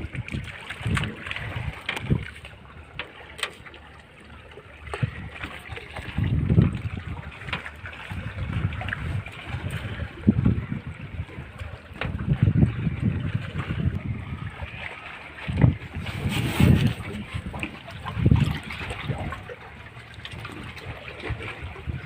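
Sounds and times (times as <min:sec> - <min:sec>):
wind buffeting microphone: 0:00.0 - 0:03.0, 0:04.5 - 0:22.0
sea water washing around boat: 0:00.0 - 0:22.0.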